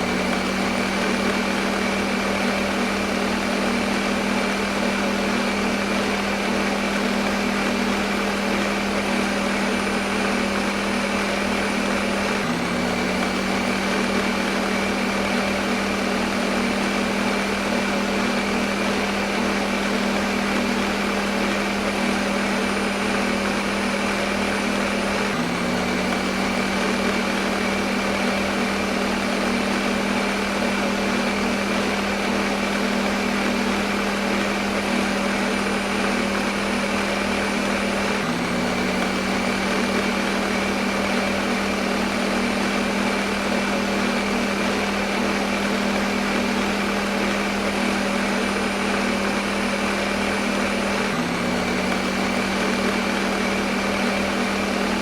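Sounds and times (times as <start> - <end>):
blender motor running: 0.0 - 55.0.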